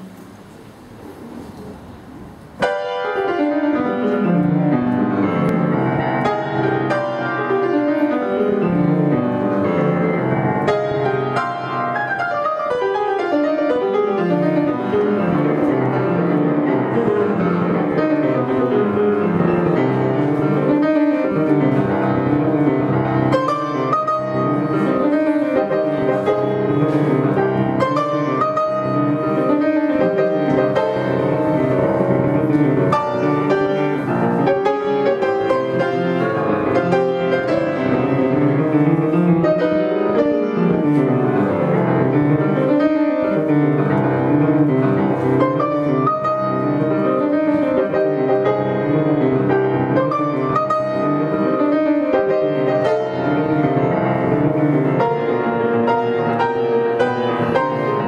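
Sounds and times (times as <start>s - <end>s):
grand piano playing: 0.0s - 58.0s.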